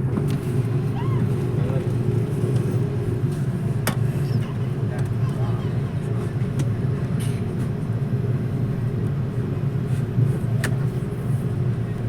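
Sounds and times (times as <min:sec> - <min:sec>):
jet cabin low rumble: 0:00.0 - 0:12.0.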